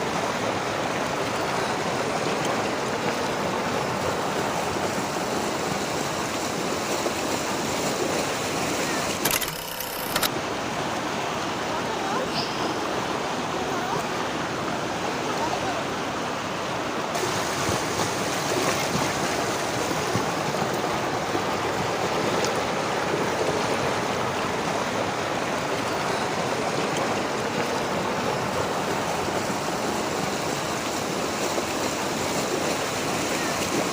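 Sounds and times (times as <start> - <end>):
river flowing over rocks: 0.0 - 33.9.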